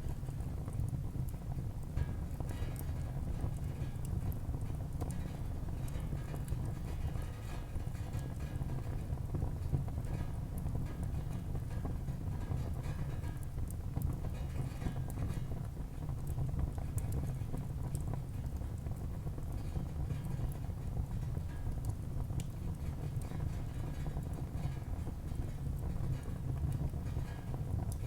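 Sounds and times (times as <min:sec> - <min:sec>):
fire flame rumble: 0:00.1 - 0:28.0.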